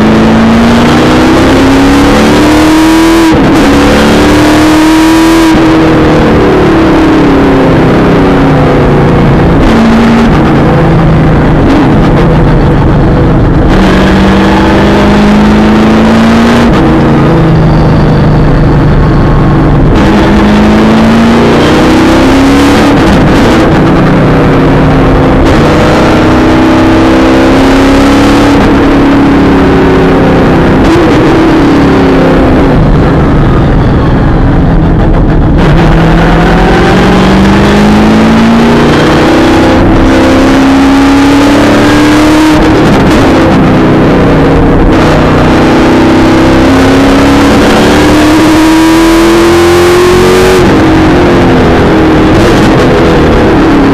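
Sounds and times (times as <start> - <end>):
race car engine accelerating: 0.0 - 53.9.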